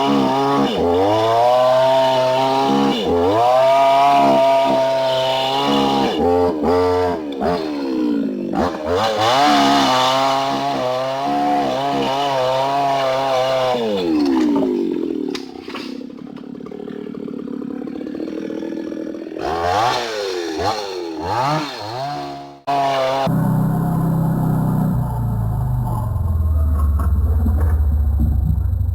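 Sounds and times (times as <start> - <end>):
chainsaw cutting wood: 0.0 - 23.6.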